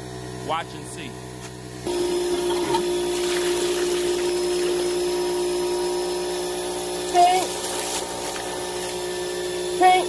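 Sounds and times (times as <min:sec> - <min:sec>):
blower whining and hissing: 0:00.0 - 0:10.0.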